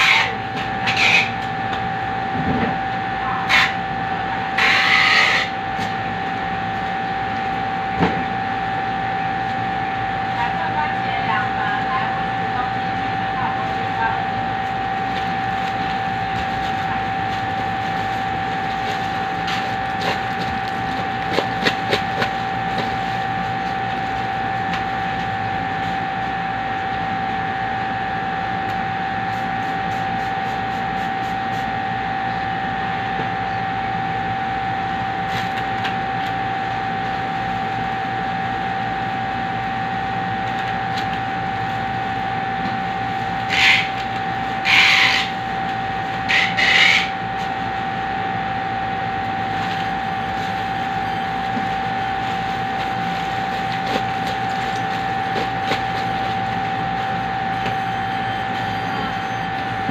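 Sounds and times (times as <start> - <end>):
machine hum with whine: 0.0 - 59.9.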